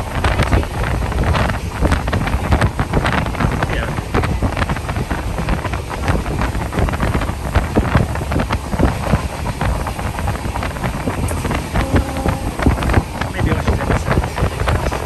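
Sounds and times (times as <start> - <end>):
train rumbling and clattering: 0.0 - 15.0
wind buffeting microphone: 0.0 - 15.0.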